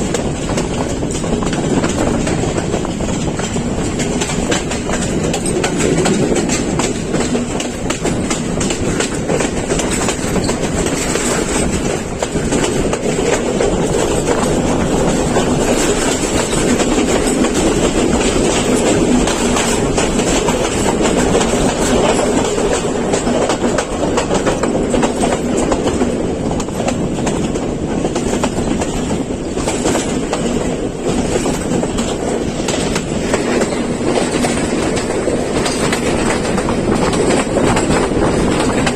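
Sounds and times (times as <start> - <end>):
train rumble: 0.0 - 38.9
train wheels clacking over rails: 0.0 - 38.9.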